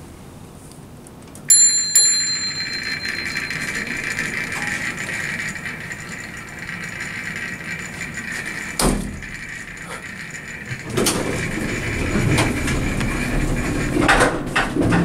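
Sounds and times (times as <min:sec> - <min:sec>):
elevator bell ringing: 0:01.5 - 0:14.2
elevator door and cab noise: 0:01.5 - 0:15.0.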